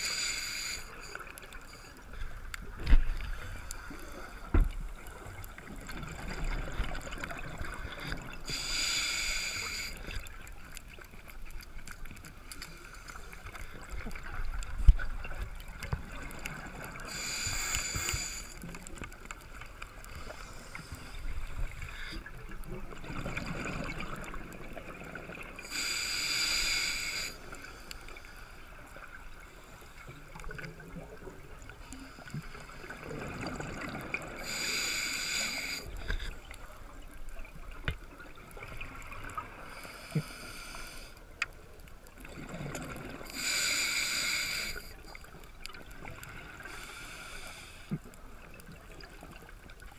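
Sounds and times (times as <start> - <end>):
quiet breathing noise: 0.0 - 49.8.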